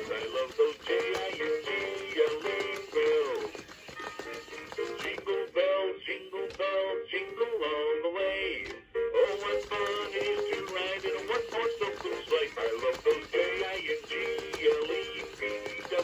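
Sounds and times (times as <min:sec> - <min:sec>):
man singing over music: 0:00.0 - 0:03.6, 0:04.3 - 0:16.0.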